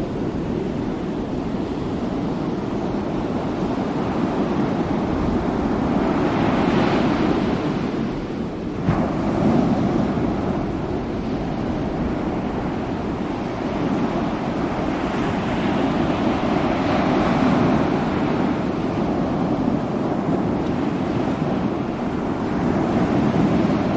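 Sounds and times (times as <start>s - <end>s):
ocean waves breaking on shore: 0.0s - 23.9s
wind buffeting microphone: 0.0s - 23.9s.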